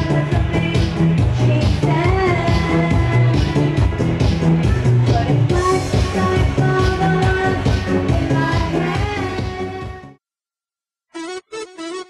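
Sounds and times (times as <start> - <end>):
music: 0.0 - 10.2, 11.1 - 12.0.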